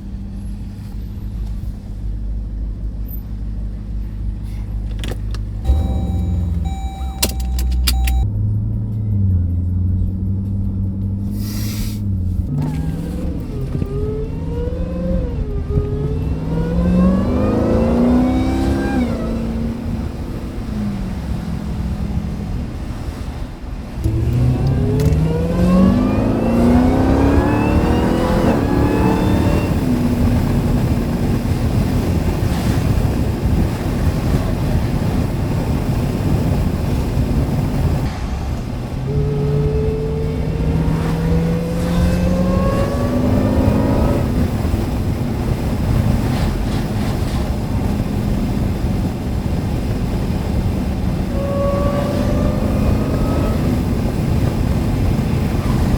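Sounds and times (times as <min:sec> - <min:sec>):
high supercharger whine: 0:00.0 - 0:34.7, 0:35.4 - 0:55.9
car engine accelerating hard: 0:00.0 - 0:55.9
road noise: 0:00.0 - 0:55.9.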